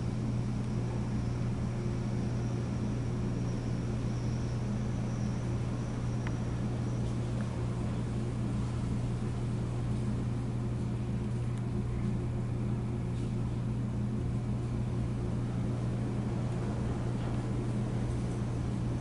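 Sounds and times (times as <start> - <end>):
low mechanical building hum: 0.0 - 19.0.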